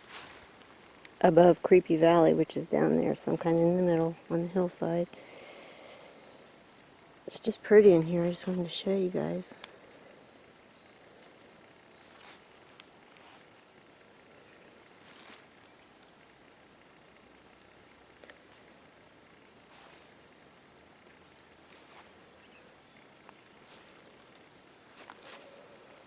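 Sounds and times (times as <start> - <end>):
crickets chirping: 0.0 - 26.0
faint crackles: 4.2 - 26.0.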